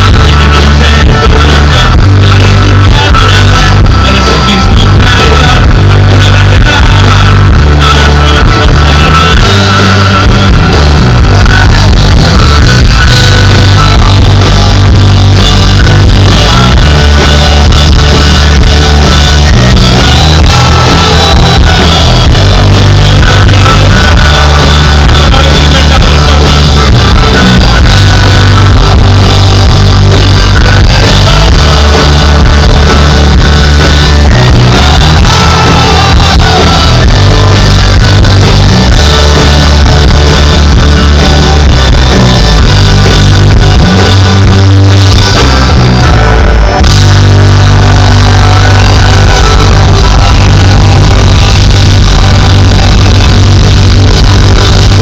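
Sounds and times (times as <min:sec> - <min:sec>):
heavy bass: 0:00.0 - 0:55.0
live rock band playing: 0:00.0 - 0:55.0
person singing: 0:00.0 - 0:55.0.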